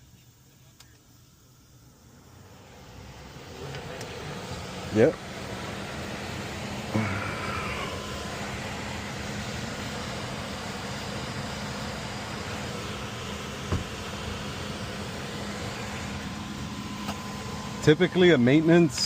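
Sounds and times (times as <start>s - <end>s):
faint steady hum: 0.0s - 19.0s
air handler whooshing: 2.1s - 19.0s.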